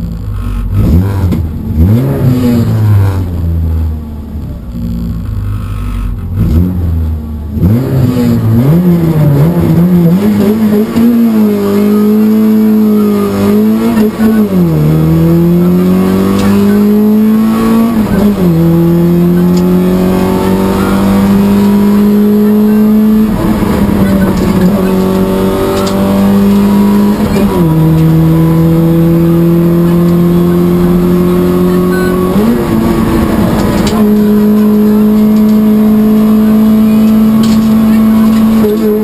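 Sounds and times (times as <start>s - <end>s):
car engine revving with upshifts: 0.0s - 39.0s.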